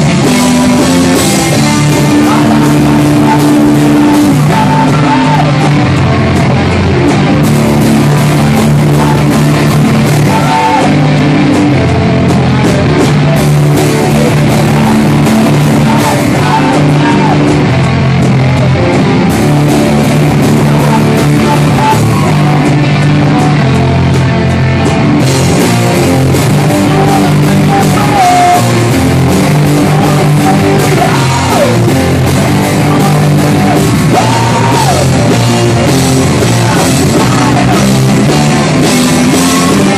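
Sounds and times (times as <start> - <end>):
person yelling singing: 0.0 - 24.6, 25.4 - 39.9
punk rock guitar: 0.0 - 39.9.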